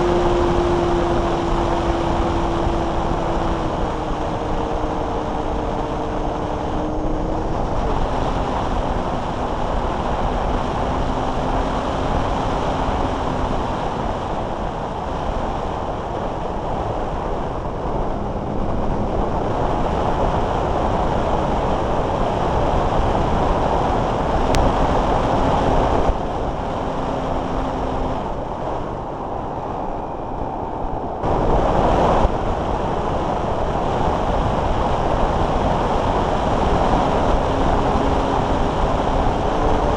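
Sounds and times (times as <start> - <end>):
airflow rushing: 0.0 - 39.9.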